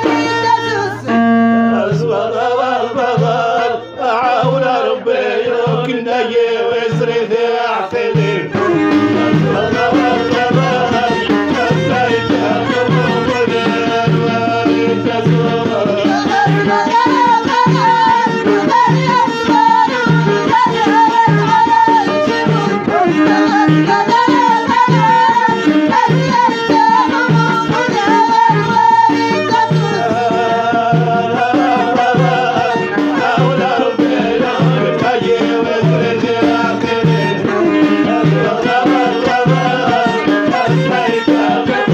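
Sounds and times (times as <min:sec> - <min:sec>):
pitch-bending folk melody: 0:00.0 - 0:41.9
steady drum beat: 0:00.0 - 0:41.9.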